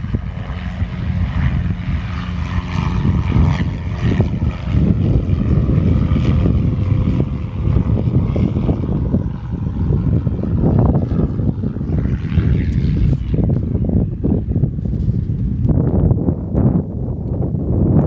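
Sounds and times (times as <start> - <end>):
propeller plane engine running: 0.0 - 18.0.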